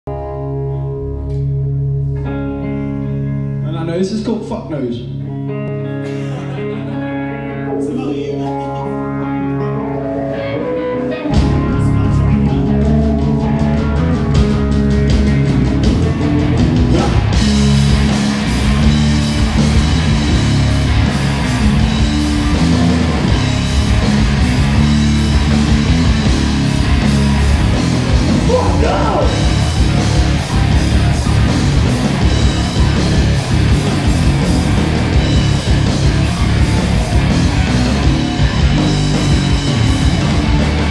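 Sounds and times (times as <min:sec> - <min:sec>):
electric guitar riff: 0:00.1 - 0:03.7, 0:05.0 - 0:40.9
rock band playing: 0:00.1 - 0:40.9.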